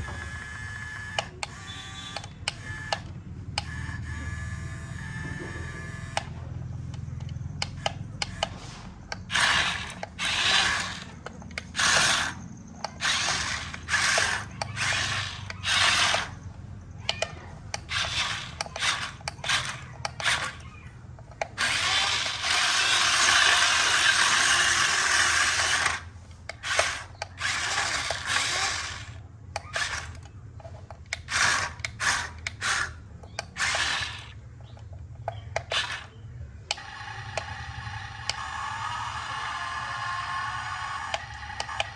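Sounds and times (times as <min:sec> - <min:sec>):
small electric motors whirring: 0:00.0 - 0:41.9.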